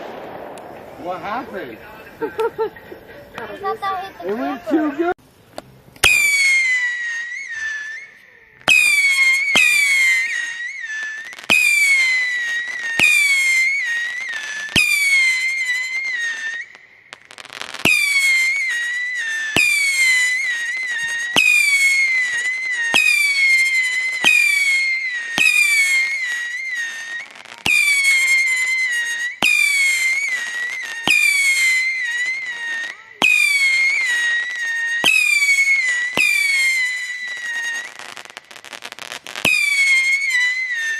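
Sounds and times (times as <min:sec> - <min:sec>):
whistling fireworks: 0:00.0 - 0:05.2, 0:06.0 - 0:40.9.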